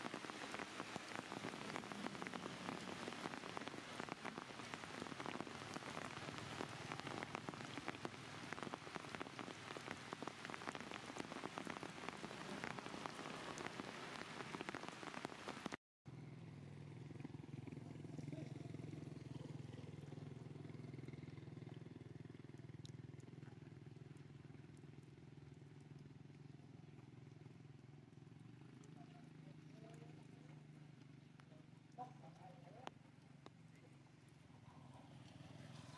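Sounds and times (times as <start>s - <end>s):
rain falling on ground: 0.0s - 15.8s, 17.1s - 35.9s.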